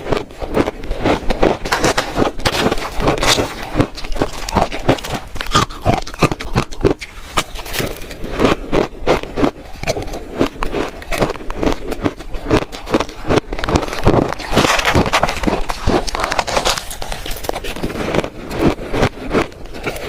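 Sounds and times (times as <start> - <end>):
shaved ice being chewed: 0.0 - 20.0.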